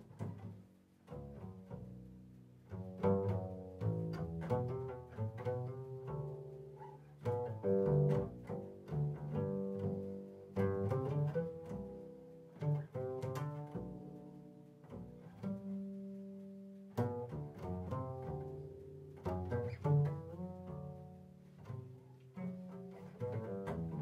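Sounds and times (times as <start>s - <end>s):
upright bass plucked notes: 0.0s - 24.0s.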